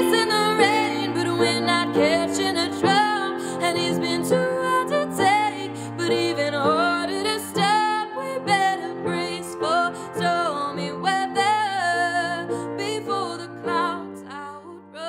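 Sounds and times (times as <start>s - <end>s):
grand piano chords: 0.0s - 15.0s
woman singing: 0.0s - 15.0s.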